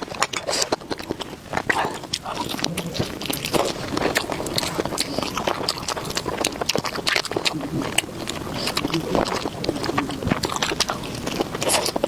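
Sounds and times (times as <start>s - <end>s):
person chewing and crunching food: 0.0s - 12.0s
wet mouth sounds: 0.0s - 12.0s.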